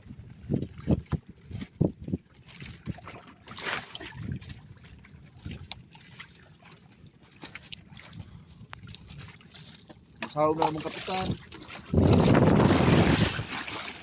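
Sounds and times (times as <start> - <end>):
water splashing around boat: 0.0 - 14.0
rush of water: 2.5 - 14.0.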